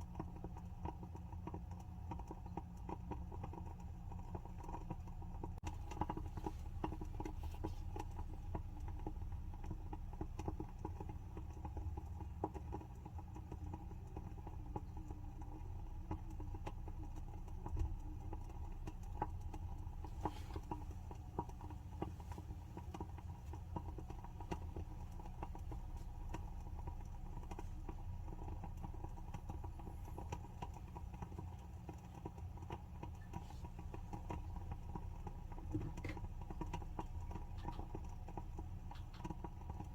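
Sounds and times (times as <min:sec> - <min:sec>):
low steady hum: 0:00.0 - 0:39.9
candle wick crackling: 0:05.4 - 0:39.9.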